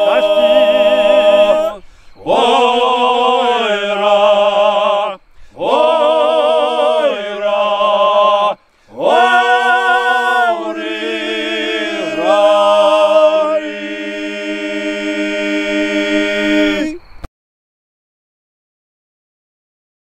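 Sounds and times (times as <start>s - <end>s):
men singing a cappella: 0.0s - 17.2s.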